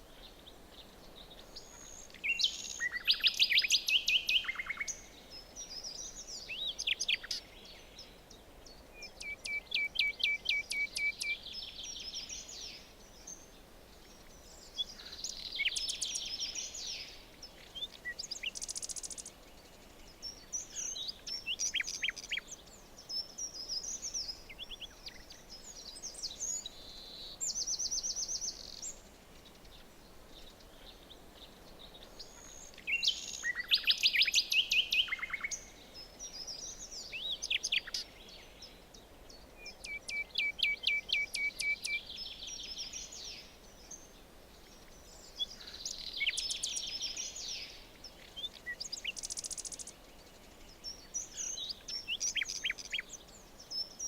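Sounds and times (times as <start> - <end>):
faint steady background noise: 0.0 - 54.0
songbirds trilling and chirping: 0.0 - 54.0.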